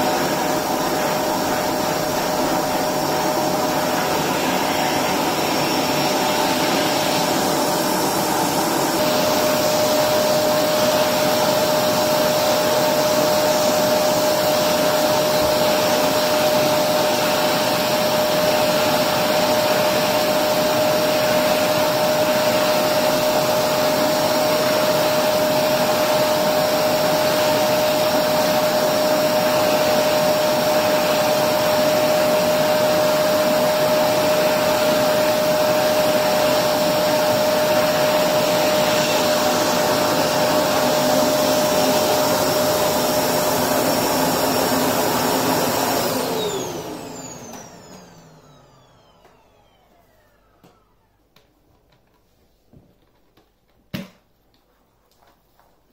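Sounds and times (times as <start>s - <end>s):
vacuum cleaner running: 0.0s - 52.2s.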